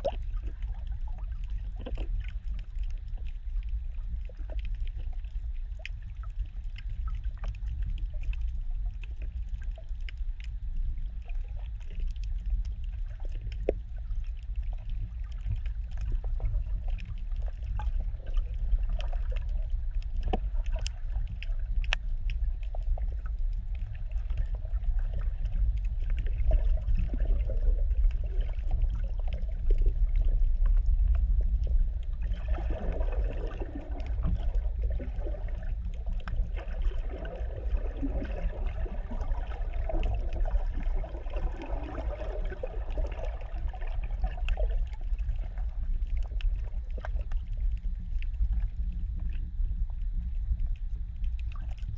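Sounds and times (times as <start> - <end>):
gurgling water and bubbles: 0.0 - 51.9
underwater rumble of moving water: 0.0 - 51.9.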